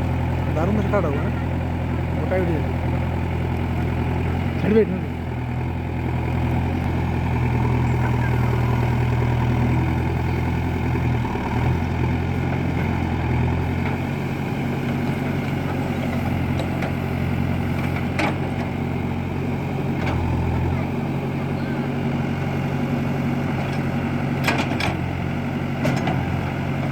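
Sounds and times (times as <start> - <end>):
heavy diesel engine running: 0.0 - 26.9.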